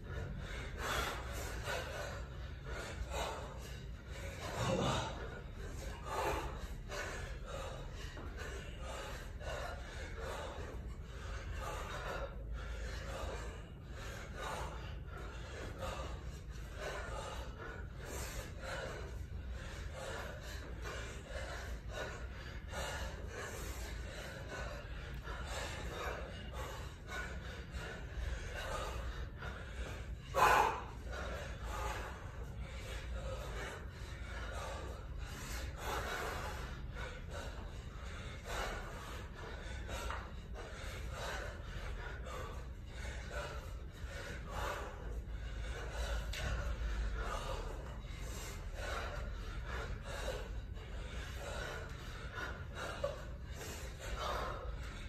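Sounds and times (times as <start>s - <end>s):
person breathing hard: 0.0s - 55.0s.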